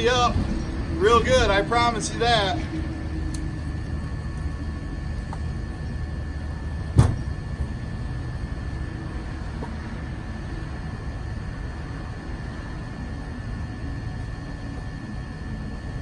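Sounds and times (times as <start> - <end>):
faint high whine: 0.0 - 16.0
low hum: 0.0 - 16.0.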